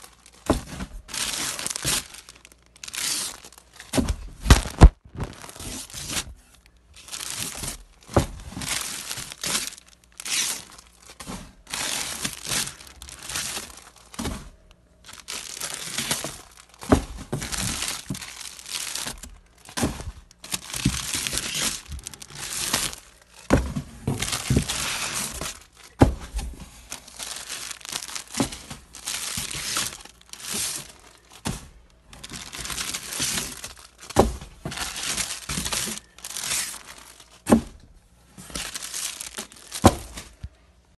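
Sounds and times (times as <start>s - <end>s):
plastic bags crinkling: 0.0s - 26.0s, 26.8s - 37.5s, 38.4s - 40.9s.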